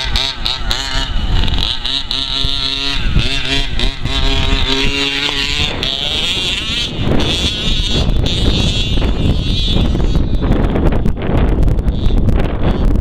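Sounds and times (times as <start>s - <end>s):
small petrol engine revving: 0.0s - 11.1s.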